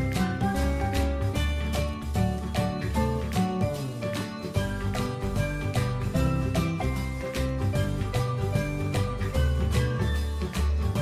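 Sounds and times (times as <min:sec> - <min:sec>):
cheerful instrumental music: 0:00.0 - 0:11.0.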